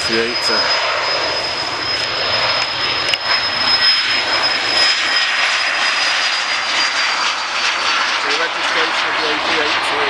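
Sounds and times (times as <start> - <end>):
high steady whine: 0.0 - 10.0
jet engines running: 0.0 - 10.0.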